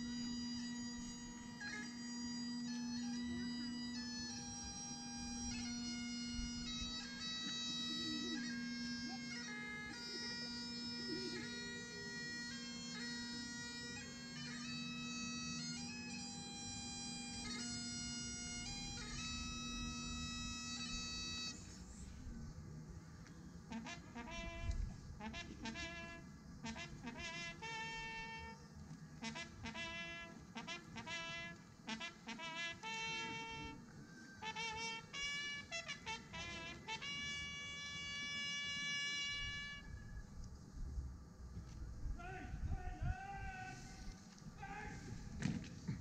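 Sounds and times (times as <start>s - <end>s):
bagpipes playing slow tune: 0.0s - 22.4s, 23.6s - 40.3s.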